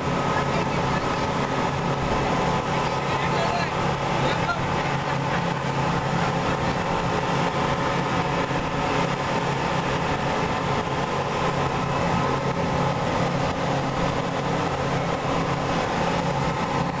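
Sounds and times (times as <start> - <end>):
boat engine hum: 0.0 - 17.0
wind and water rushing: 0.0 - 17.0.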